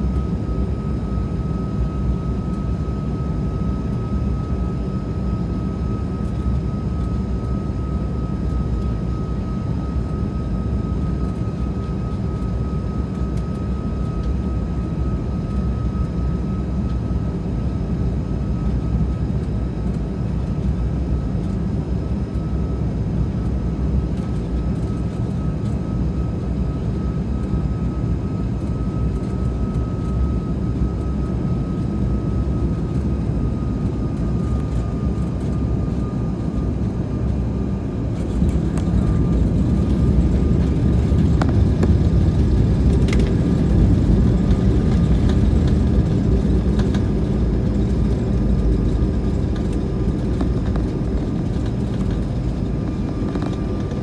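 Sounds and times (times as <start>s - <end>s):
airplane cabin rumble: 0.0s - 54.0s
thin steady whine: 0.0s - 54.0s.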